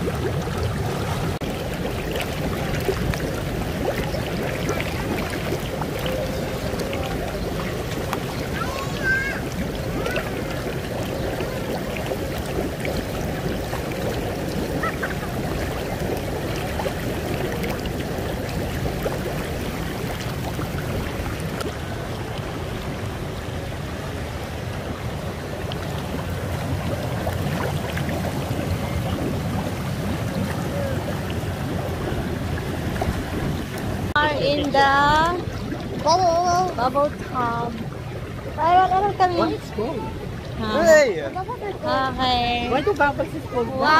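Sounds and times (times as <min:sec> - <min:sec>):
hot tub jets churning water: 0:00.0 - 0:43.9.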